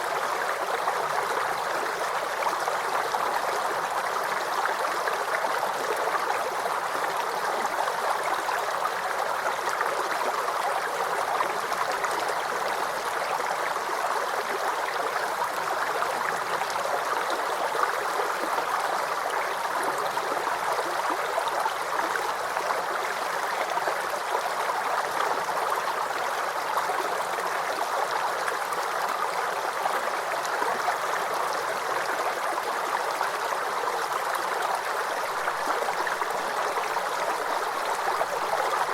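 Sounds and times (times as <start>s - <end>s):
creek babbling over stones: 0.0s - 38.9s.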